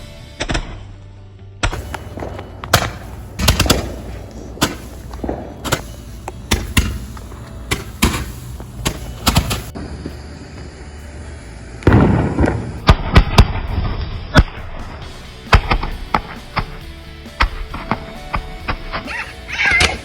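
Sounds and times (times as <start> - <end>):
fireworks bangs and pops: 1.6 - 10.8, 11.8 - 19.1.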